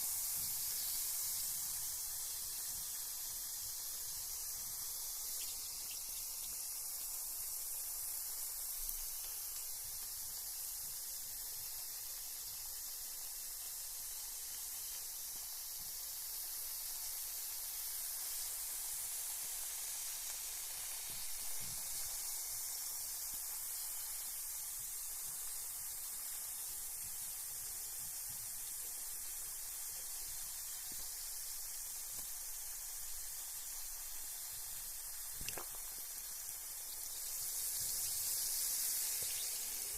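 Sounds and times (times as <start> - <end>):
bath bomb fizzing: 0.0 - 39.9.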